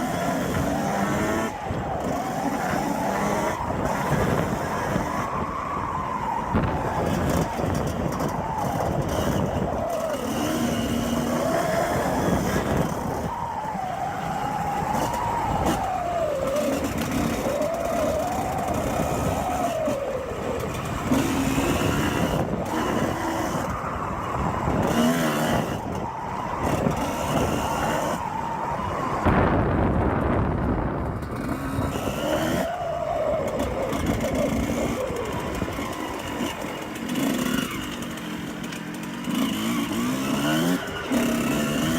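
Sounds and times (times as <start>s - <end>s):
two-stroke dirt bike revving: 0.0s - 5.5s, 6.6s - 29.2s, 31.1s - 41.9s.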